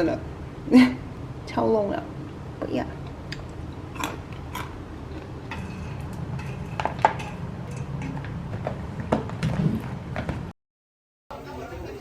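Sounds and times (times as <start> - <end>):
low steady hum: 0.0 - 10.5.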